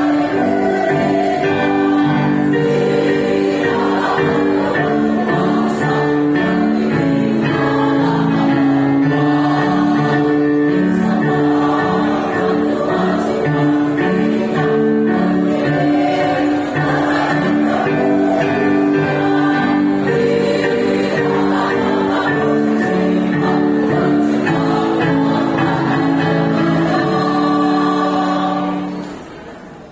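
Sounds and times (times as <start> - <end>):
choir singing: 0.0 - 29.9.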